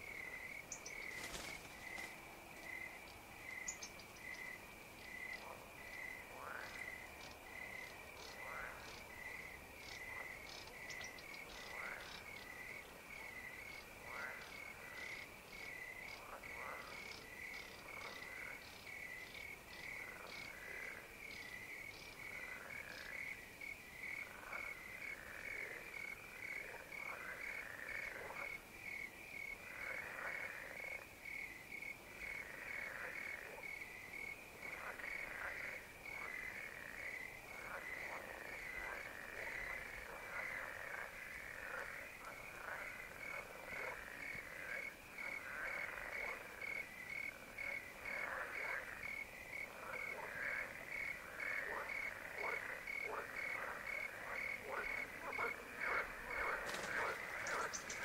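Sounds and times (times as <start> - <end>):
crickets chirping: 0.0 - 58.0
frogs calling: 0.0 - 58.0.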